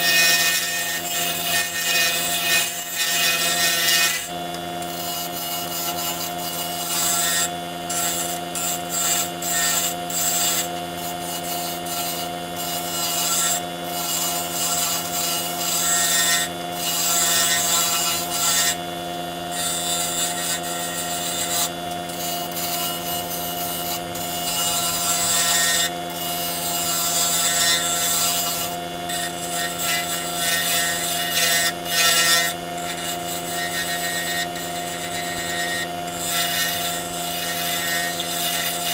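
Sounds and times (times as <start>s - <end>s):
turning tool scraping wood: 0.0s - 38.9s
wood lathe motor humming: 0.0s - 38.9s.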